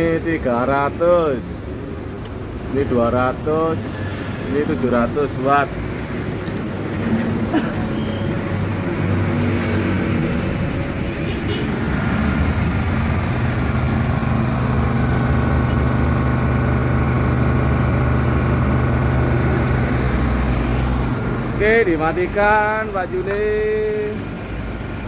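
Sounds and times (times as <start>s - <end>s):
generator engine running: 0.0s - 25.0s.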